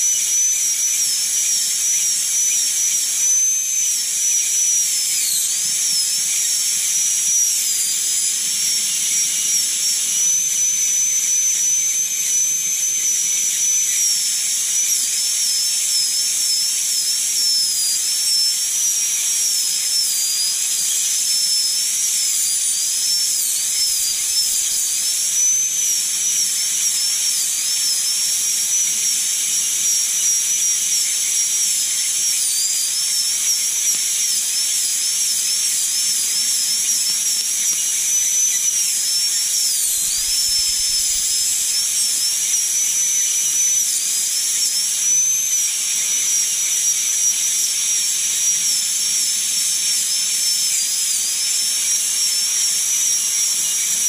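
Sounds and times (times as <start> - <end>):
pneumatic air scribe hiss and whine: 0.0 - 54.0.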